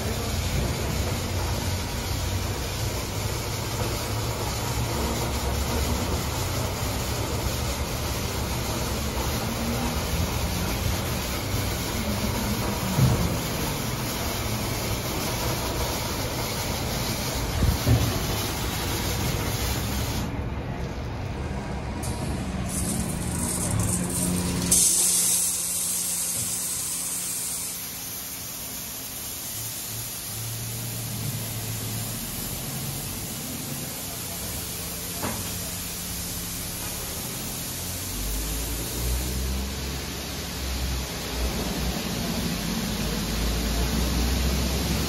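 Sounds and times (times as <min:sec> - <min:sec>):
water spray hissing: 0:00.0 - 0:20.3, 0:22.0 - 0:45.0
rotating car wash brushes: 0:00.0 - 0:20.4, 0:21.9 - 0:45.0.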